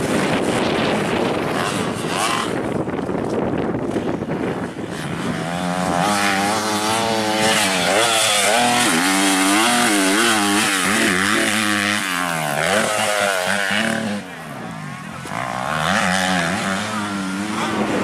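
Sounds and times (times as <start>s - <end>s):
motocross bike engine revving: 0.0s - 3.0s, 3.6s - 18.0s.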